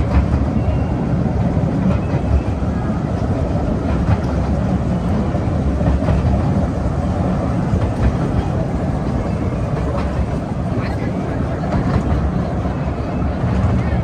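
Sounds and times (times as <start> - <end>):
toy train rumbling on track: 0.0 - 14.0.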